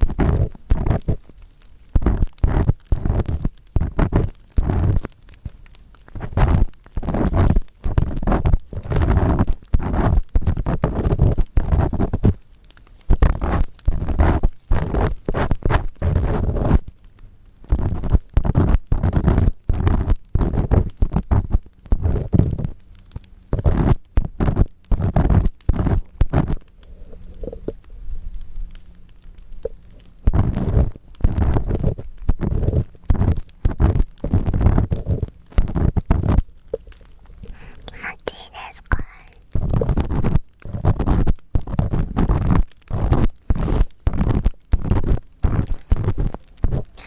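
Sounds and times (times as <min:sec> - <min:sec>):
earpick scraping inside microphone ear: 0:00.0 - 0:01.3, 0:02.0 - 0:05.1, 0:06.2 - 0:12.4, 0:13.1 - 0:16.8, 0:17.7 - 0:22.8, 0:23.5 - 0:26.6, 0:30.3 - 0:36.4, 0:37.6 - 0:47.0.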